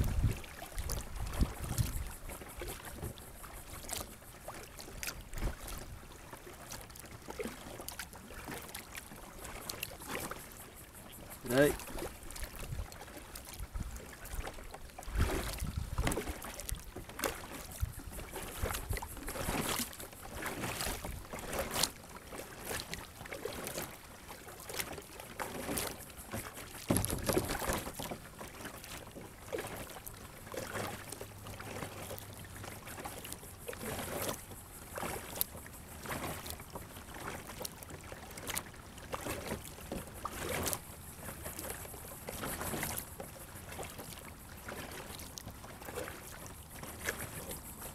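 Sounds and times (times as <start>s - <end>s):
water lapping around kayak: 0.0s - 47.9s.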